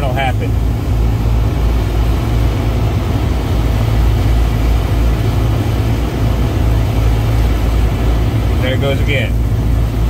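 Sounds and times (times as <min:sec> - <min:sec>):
refrigeration compressors humming: 0:00.0 - 0:10.0.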